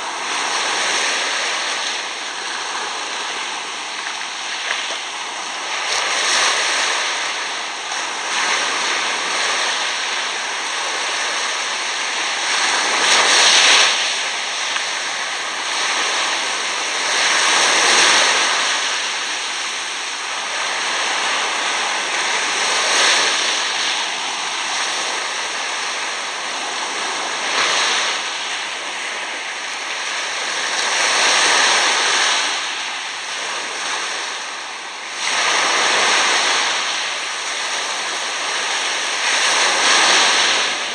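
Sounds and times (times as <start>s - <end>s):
small waves washing over sand: 0.0s - 40.9s.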